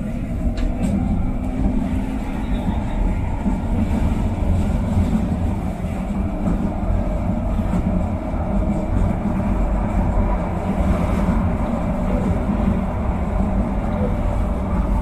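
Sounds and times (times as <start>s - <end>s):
light-rail train rumbling: 0.0s - 15.0s.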